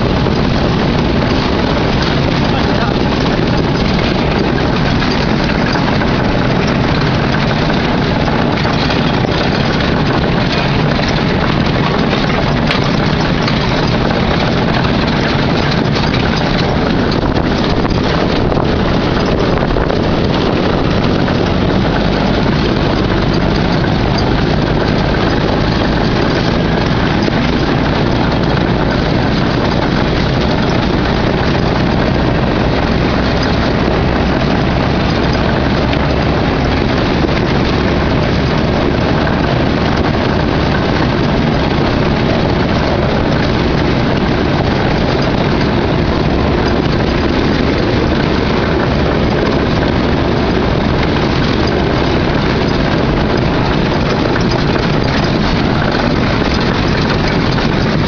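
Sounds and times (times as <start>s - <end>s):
buggy engine running: 0.0s - 58.0s
wind and trail noise: 0.0s - 58.0s.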